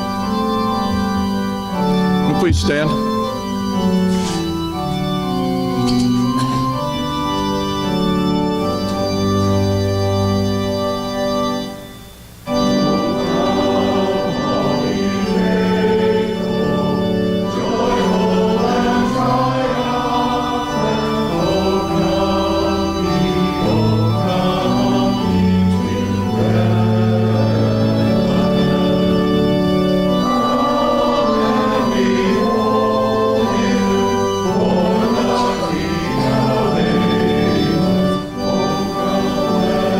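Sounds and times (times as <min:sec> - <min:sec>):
congregation singing: 0:00.0 - 0:39.9
organ playing a hymn: 0:00.0 - 0:39.9.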